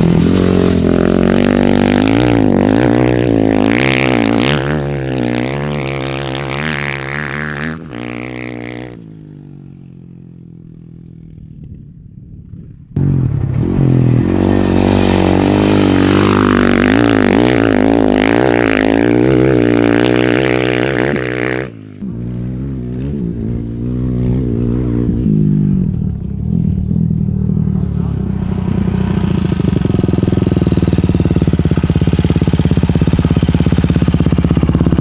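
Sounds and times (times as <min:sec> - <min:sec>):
dirt bike engine running: 0:00.0 - 0:07.8, 0:13.0 - 0:21.1, 0:22.0 - 0:35.0.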